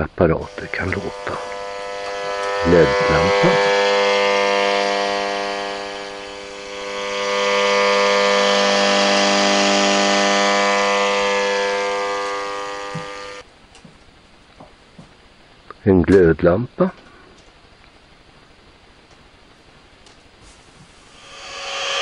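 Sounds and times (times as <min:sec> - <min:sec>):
radio interference buzz with hiss: 0:00.0 - 0:13.5, 0:14.1 - 0:22.0.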